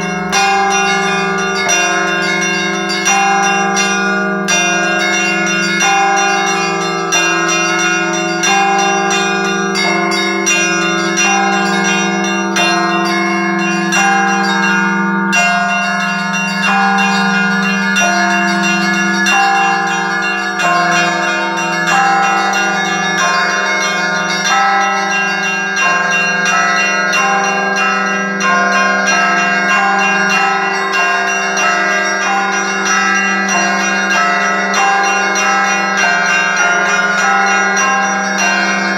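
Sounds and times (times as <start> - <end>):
large bell humming: 0.0 - 38.9
small bells ringing rapidly: 0.0 - 38.9.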